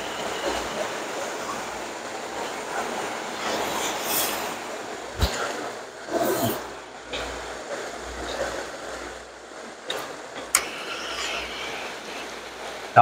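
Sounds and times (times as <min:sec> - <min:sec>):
whitewater rushing over rocks: 0:00.0 - 0:13.0.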